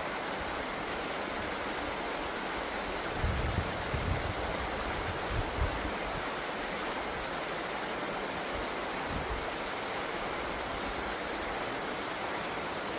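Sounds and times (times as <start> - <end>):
running water rushing: 0.0 - 12.9.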